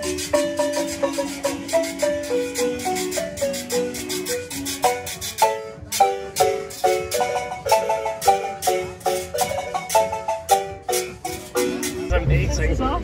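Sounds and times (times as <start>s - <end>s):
hand percussion: 0.0s - 12.6s
marimba melody in chords: 0.0s - 13.0s
strummed guitars: 0.0s - 13.0s.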